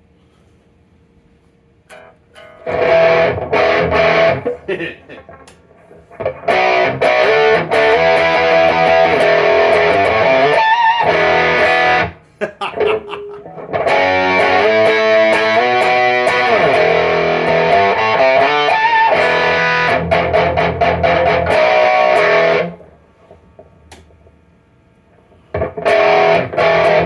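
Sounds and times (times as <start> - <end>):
distorted electric guitar: 1.9 - 24.2, 25.4 - 27.0.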